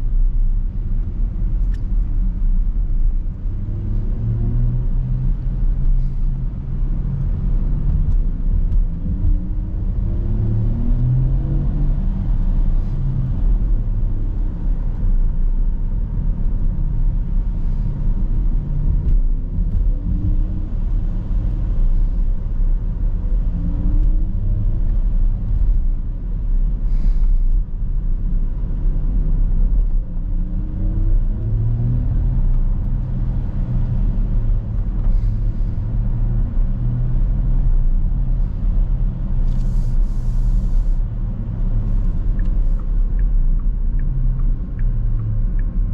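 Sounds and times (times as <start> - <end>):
road and tyre noise: 0.0 - 45.9.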